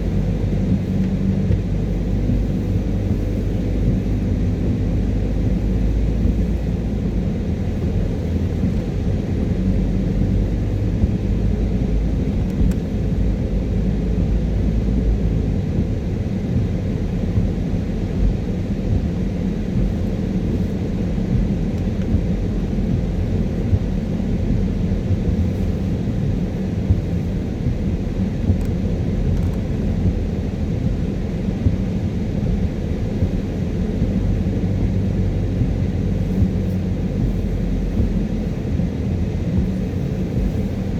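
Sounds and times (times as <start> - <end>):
car interior road rumble: 0.0 - 40.9.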